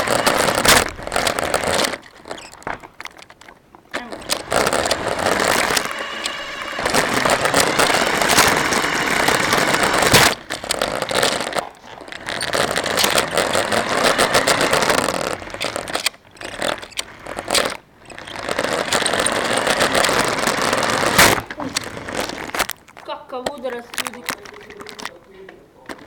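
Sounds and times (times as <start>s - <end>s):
rc car motor and wheels: 0.0s - 26.0s.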